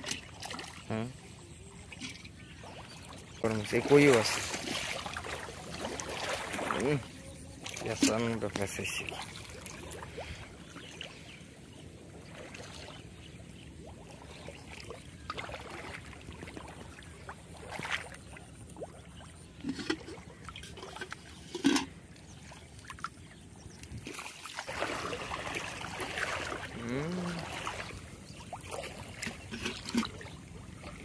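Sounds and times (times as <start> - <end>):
shallow water sloshing: 0.0 - 31.0
short splashes: 2.0 - 11.2, 13.8 - 23.2, 23.8 - 31.0.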